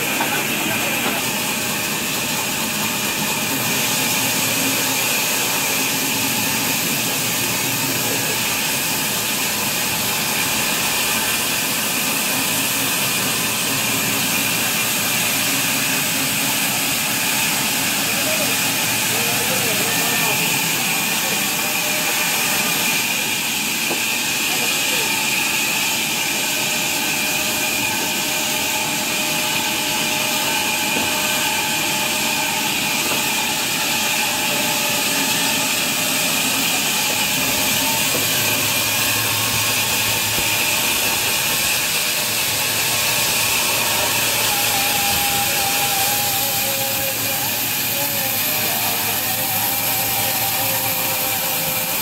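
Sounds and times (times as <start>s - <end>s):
band saw cutting timber: 0.0s - 52.0s.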